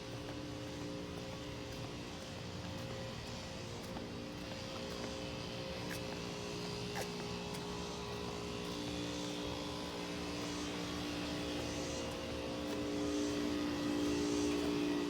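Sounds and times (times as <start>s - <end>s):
air conditioner units humming: 0.0s - 15.0s.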